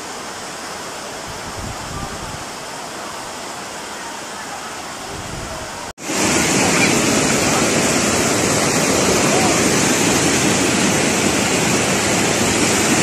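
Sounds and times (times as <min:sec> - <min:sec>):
flood torrent rushing: 0:00.0 - 0:13.0
floodwater rushing: 0:00.0 - 0:13.0.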